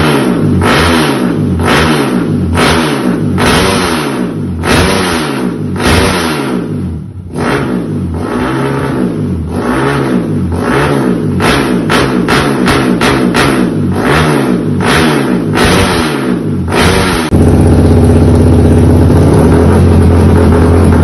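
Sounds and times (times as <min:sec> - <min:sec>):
dirt bike engine revving: 0:00.0 - 0:18.4.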